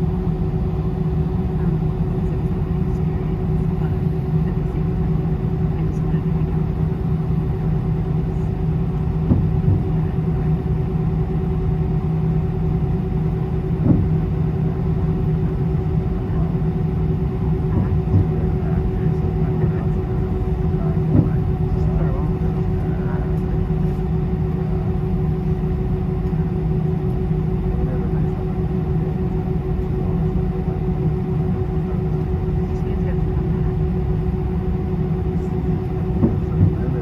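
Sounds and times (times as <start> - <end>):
airliner cabin drone: 0.0 - 37.0.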